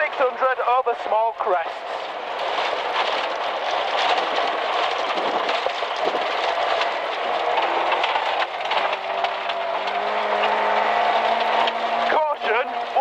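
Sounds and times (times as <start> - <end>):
tyre and gravel rush: 0.0 - 13.0
rally car engine running hard: 1.8 - 13.0.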